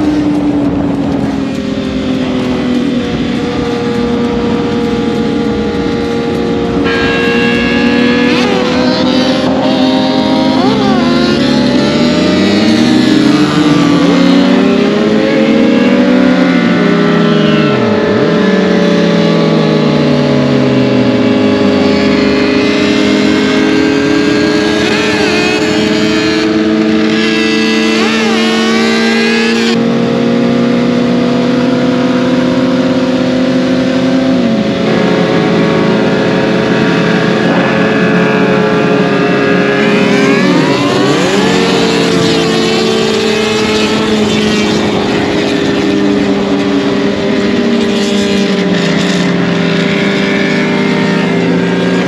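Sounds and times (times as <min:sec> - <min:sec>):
vehicle engines revving: 0:00.0 - 0:52.0
vehicle pulling off: 0:00.0 - 0:52.0.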